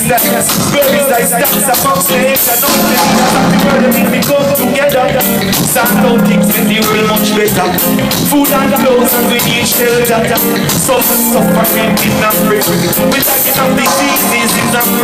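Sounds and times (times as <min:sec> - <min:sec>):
drums: 0:00.0 - 0:15.0
electric guitar: 0:00.0 - 0:15.0
reggae band playing: 0:00.0 - 0:15.0.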